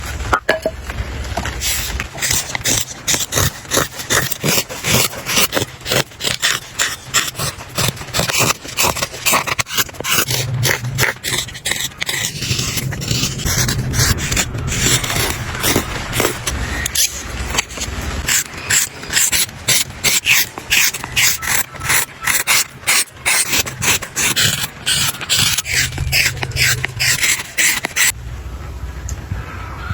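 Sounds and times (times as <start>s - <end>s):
hand tools scraping wood: 1.5s - 28.1s.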